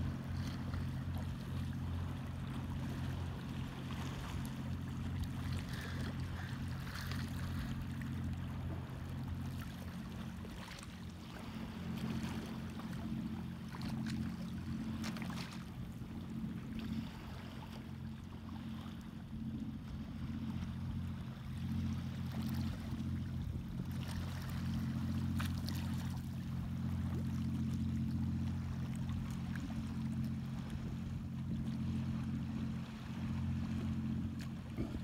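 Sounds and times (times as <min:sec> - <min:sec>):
sea water lapping around rocks: 0:00.0 - 0:35.0
steady low rumble: 0:00.0 - 0:35.0.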